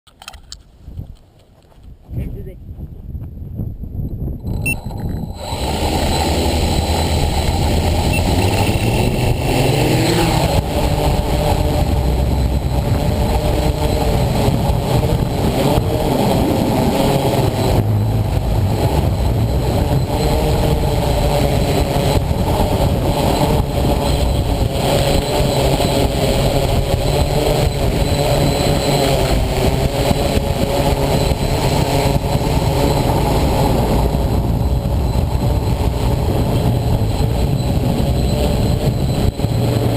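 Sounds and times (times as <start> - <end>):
heavy wind rumble: 0.4 - 39.9
drone propellers whirring: 4.2 - 39.9.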